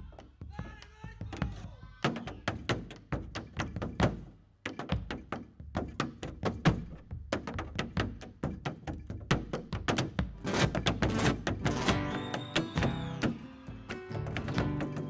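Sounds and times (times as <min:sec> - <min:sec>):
boots striking stage floor: 0:00.0 - 0:15.0.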